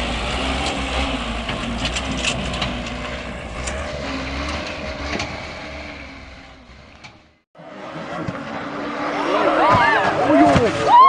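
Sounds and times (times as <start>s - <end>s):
dump truck engine rumbling: 0.0s - 11.0s.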